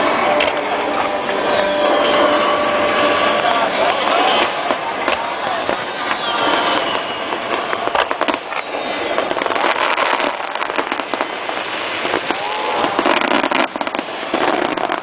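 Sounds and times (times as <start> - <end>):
firework whistle rising: 0.0 - 15.0
fireworks bursting and crackling: 0.0 - 15.0.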